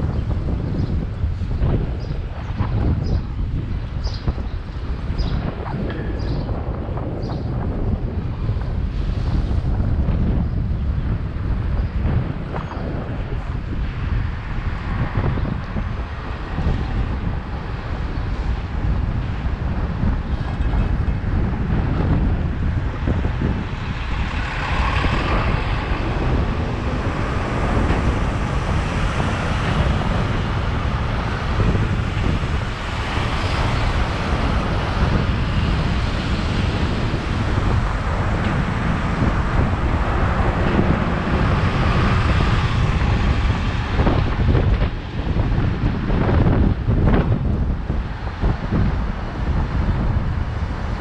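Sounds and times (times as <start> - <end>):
city traffic noise: 0.0 - 51.0
wind buffeting microphone: 0.0 - 51.0.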